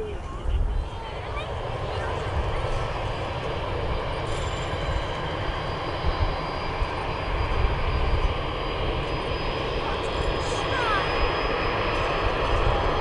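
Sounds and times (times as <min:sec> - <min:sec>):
gusty low rumble: 0:00.0 - 0:13.0
jet engines rumbling roar: 0:00.0 - 0:13.0.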